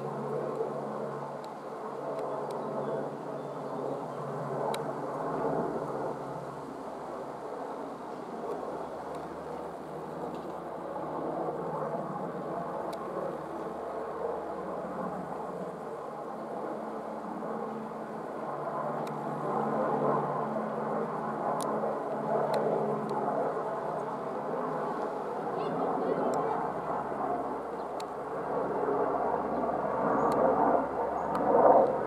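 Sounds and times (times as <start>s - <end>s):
helicopter rotor and turbine rumble: 0.0s - 32.0s.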